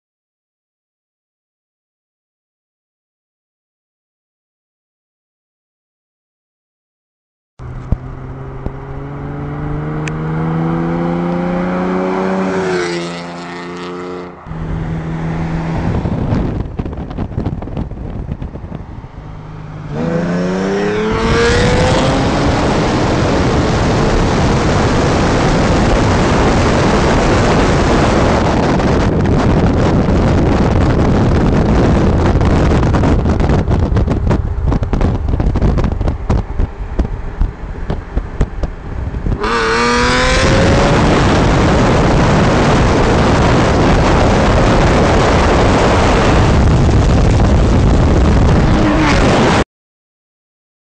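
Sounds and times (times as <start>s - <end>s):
car engine accelerating: 7.6s - 49.6s
wind on microphone: 7.6s - 49.6s.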